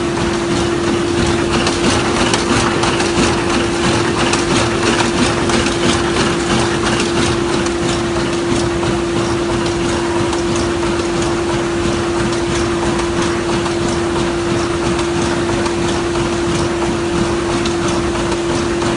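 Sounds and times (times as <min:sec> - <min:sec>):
sewing machine running: 0:00.0 - 0:18.9.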